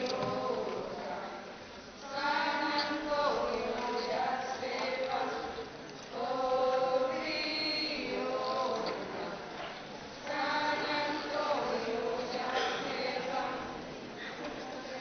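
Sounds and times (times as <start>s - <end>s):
group singing long held notes: 0.0s - 15.0s.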